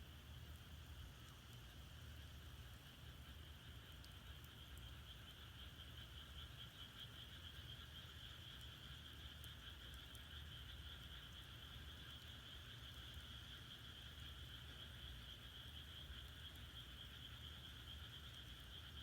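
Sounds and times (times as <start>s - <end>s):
frogs calling: 0.9s - 19.0s.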